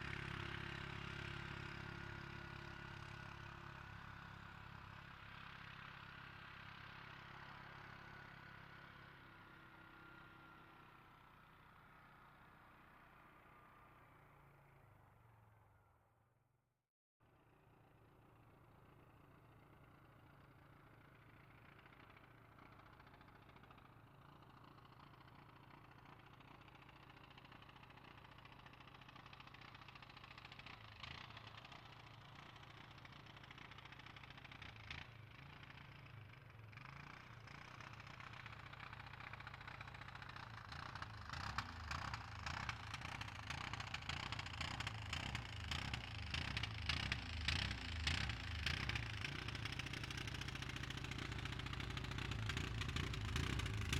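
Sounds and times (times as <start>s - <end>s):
atv engine: 0.0s - 16.0s, 17.5s - 53.9s.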